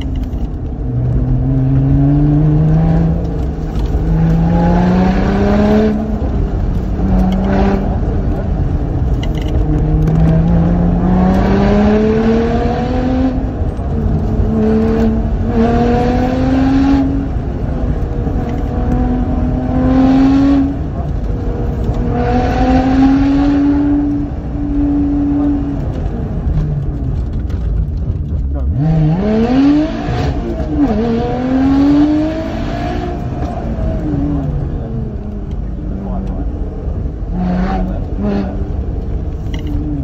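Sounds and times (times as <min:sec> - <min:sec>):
car engine accelerating: 0:00.0 - 0:40.0
road and tyre noise: 0:00.0 - 0:40.0.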